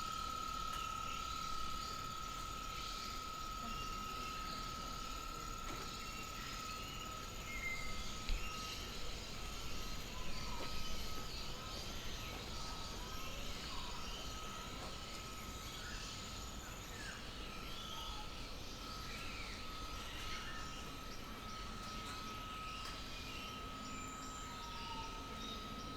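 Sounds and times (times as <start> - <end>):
high-pitched insect drone: 0.0 - 25.9.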